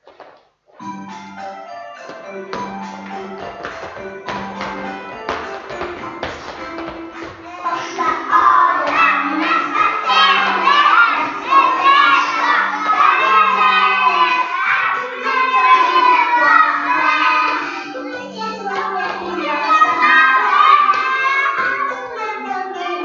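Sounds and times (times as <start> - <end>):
music accompaniment: 0.8 - 23.0
children singing: 2.2 - 23.0.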